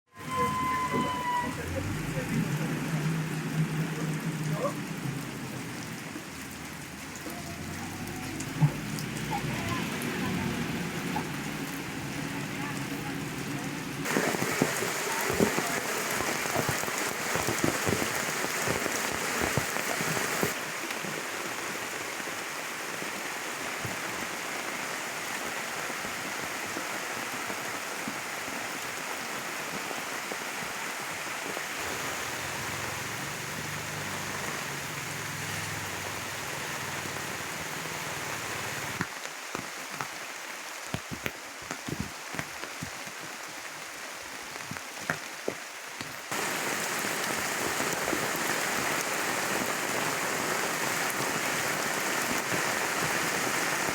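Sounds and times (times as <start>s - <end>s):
heavy rain falling: 0.1s - 53.9s
water drips and splashes: 1.1s - 53.9s.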